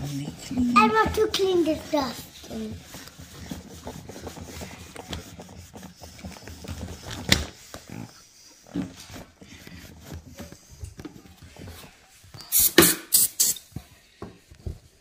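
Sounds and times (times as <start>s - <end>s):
cloth rubbing on plastic: 0.0s - 12.2s
hose and wand handling noises: 0.0s - 15.0s.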